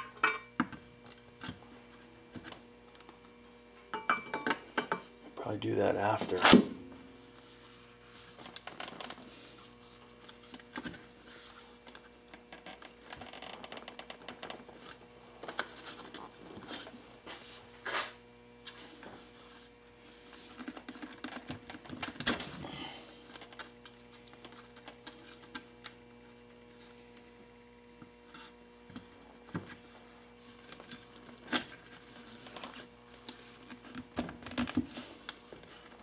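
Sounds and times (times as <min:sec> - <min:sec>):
steady electrical hum: 0:00.0 - 0:36.0.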